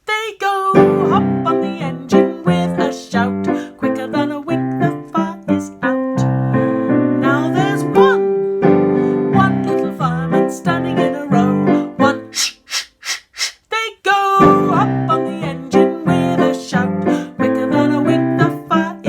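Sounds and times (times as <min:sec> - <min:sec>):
piano playing a lively tune: 0:00.8 - 0:12.4, 0:14.4 - 0:19.0.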